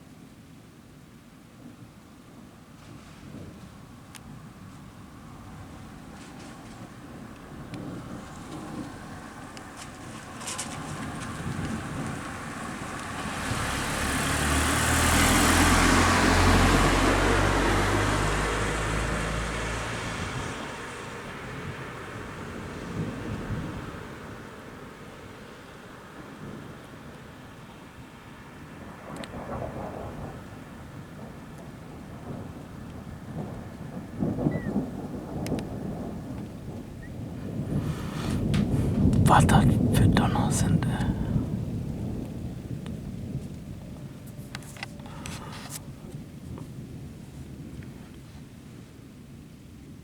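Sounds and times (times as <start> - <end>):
thunder rumbling: 2.9 - 50.0
rain hissing: 5.6 - 49.0.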